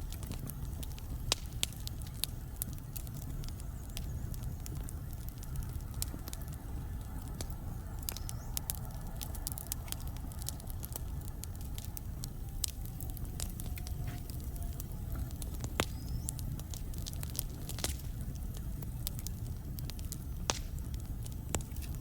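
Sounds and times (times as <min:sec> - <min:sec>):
fire crackling and popping: 0:00.0 - 0:22.0
low rumble of flames: 0:00.0 - 0:22.0
thin whistle from burning wood: 0:00.0 - 0:22.0.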